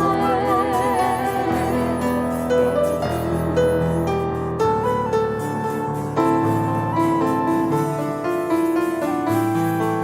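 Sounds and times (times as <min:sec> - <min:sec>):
piano playing soft slow chords: 0:00.0 - 0:10.0.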